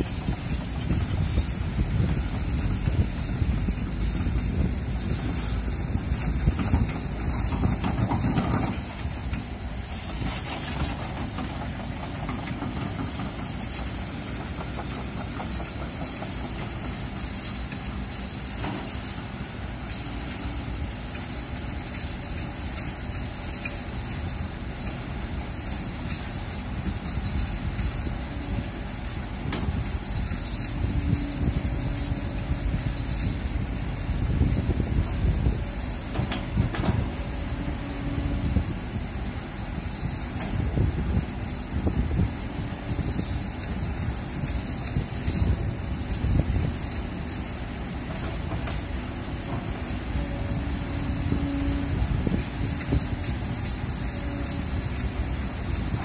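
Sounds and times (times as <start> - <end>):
wind buffeting microphone: 0.0 - 17.4, 22.3 - 56.0
excavator diesel engine running: 0.0 - 56.0.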